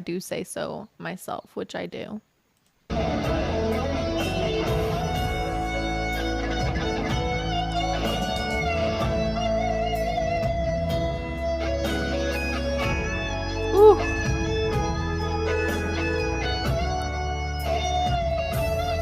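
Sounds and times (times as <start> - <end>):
song with guitar accompaniment: 2.9 - 19.0.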